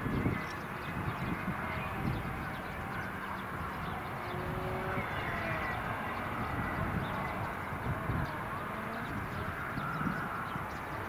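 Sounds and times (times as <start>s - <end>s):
distant jet engines: 0.0s - 11.0s.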